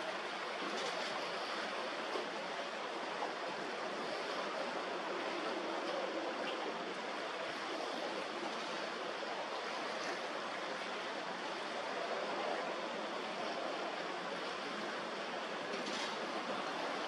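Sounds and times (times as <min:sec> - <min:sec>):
choppy sea water rushing: 0:00.0 - 0:17.0.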